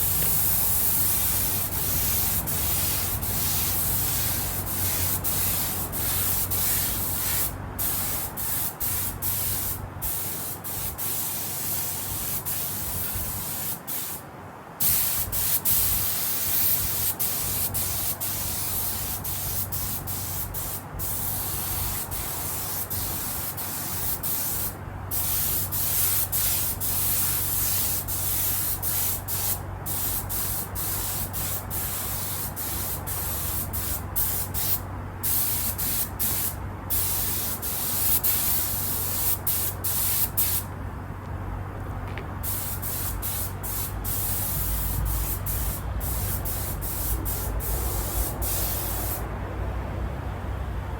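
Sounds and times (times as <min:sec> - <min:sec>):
spray paint hissing: 0:00.0 - 0:14.2, 0:14.8 - 0:40.7, 0:42.4 - 0:49.3
steady low hum: 0:00.0 - 0:50.9.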